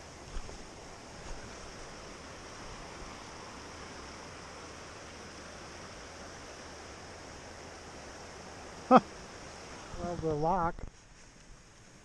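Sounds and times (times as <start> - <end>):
river rushing: 0.0 - 10.7.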